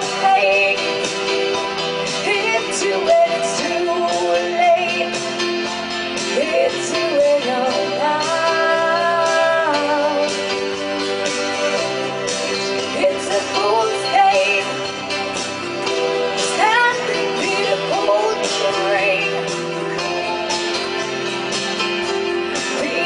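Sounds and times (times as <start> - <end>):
woman singing: 0.0 - 10.8, 12.8 - 15.0, 16.3 - 21.4, 22.5 - 23.0
keyboard synthesizer: 0.0 - 23.0.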